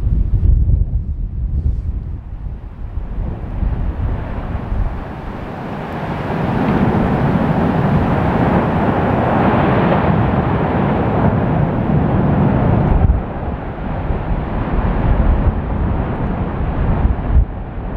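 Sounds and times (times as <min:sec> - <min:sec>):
lava fountain roaring: 0:02.0 - 0:17.9.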